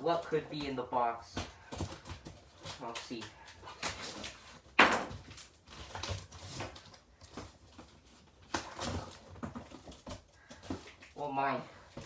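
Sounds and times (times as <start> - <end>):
cardboard scraping and rustling: 0.0 - 11.2.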